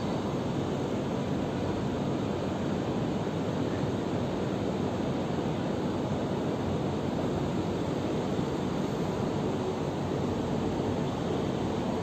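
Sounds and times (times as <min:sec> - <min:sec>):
distant road traffic hum: 0:00.0 - 0:12.0.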